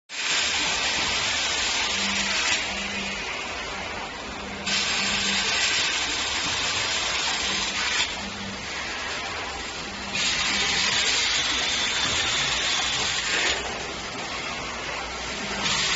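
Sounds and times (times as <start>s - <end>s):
screen printing machine hissing: 0.1s - 15.9s.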